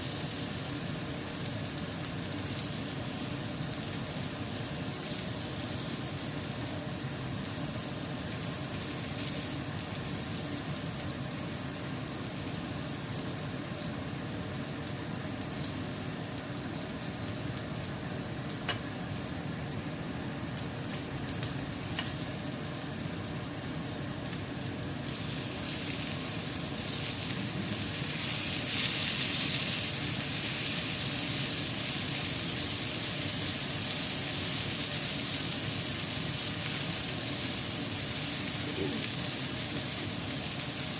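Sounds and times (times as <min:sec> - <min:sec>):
fish sizzling in a pan: 0:00.0 - 0:40.9.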